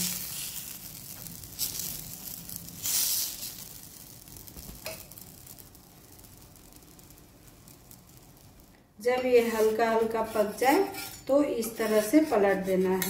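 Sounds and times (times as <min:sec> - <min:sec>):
batter sizzling on a griddle: 0:00.0 - 0:13.0.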